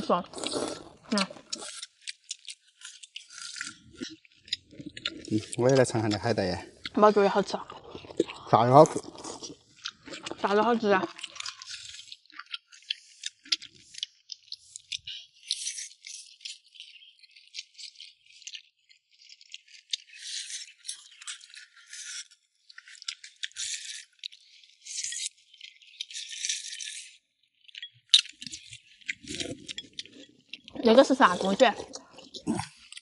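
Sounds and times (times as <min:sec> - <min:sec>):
crunchy chewing: 0:00.0 - 0:33.0.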